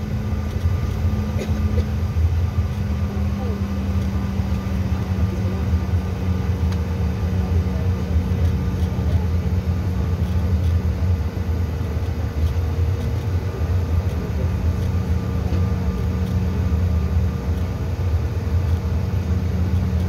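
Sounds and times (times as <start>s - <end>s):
aircraft cabin low rumble: 0.0s - 20.0s.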